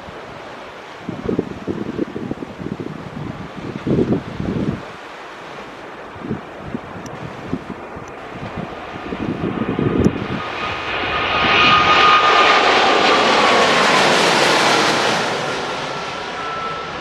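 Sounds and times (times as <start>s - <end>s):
jet engines passing by: 0.0s - 17.0s
wind buffeting microphone: 0.0s - 17.0s.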